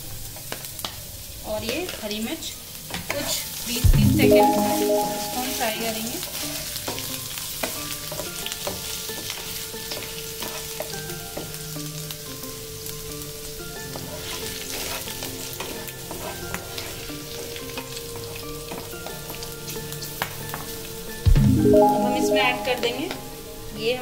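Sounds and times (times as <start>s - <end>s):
garlic sizzling in hot oil: 0.0s - 3.8s, 5.4s - 21.2s.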